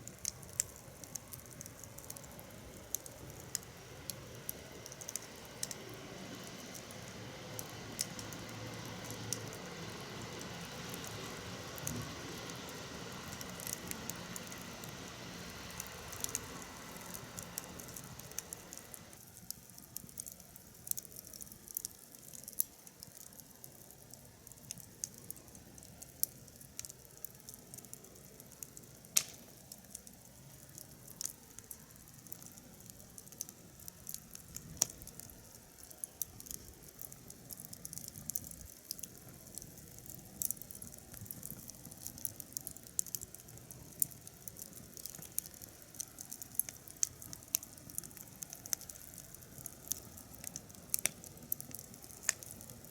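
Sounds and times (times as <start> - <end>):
background hiss with faint hum: 0.0 - 52.9
wood fire crackling and popping: 0.0 - 52.9.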